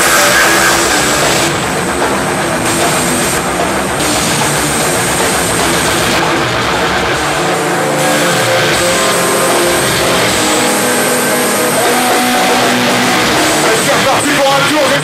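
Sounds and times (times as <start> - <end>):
distorted electric guitars: 0.0 - 15.0
fast drumming: 0.0 - 15.0.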